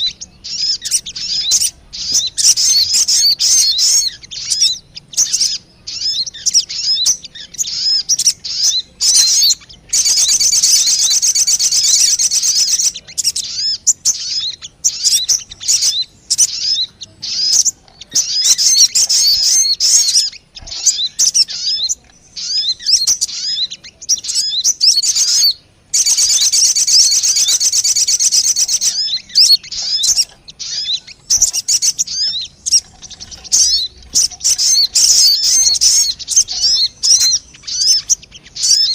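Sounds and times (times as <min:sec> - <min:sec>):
bird lure chirps and whistles: 0:00.0 - 0:38.9
long dense bird trills: 0:00.0 - 0:38.9.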